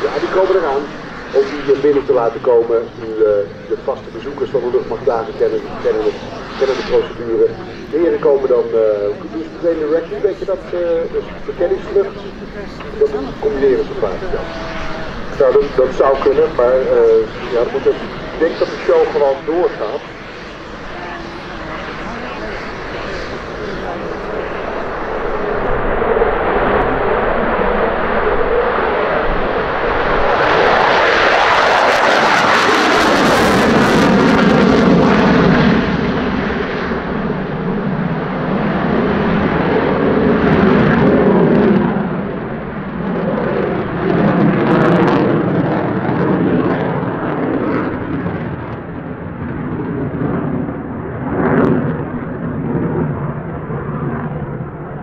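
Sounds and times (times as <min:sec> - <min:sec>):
jet roar with crackling edge: 0:00.0 - 0:55.0.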